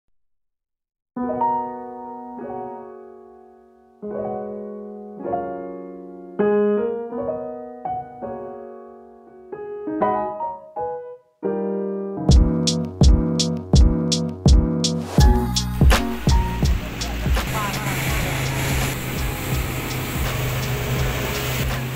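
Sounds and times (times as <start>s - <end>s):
piano music: 1.2s - 21.9s.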